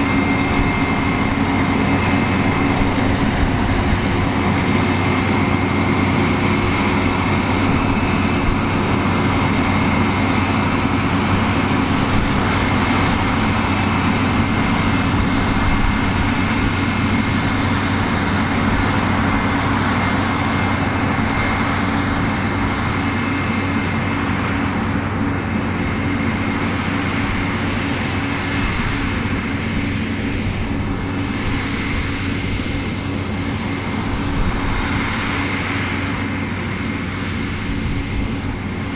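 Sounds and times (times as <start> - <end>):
combine harvester engine drone: 0.0 - 38.9
high steady whine: 0.0 - 38.9.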